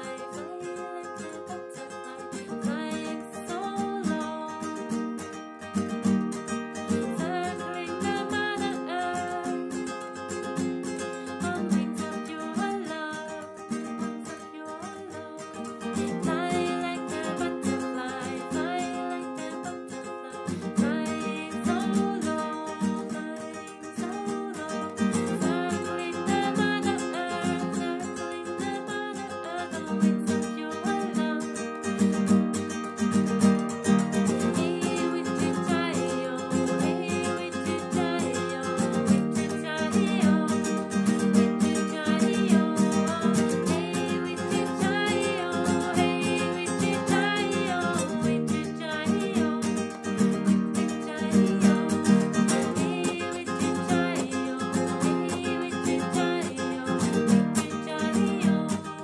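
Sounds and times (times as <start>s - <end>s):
nylon-string guitar strumming: 0.0s - 59.0s.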